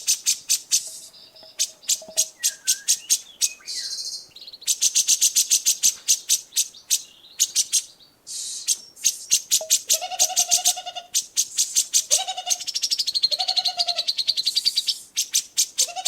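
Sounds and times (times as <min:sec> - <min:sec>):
songbird chips and trills: 0:00.0 - 0:13.4.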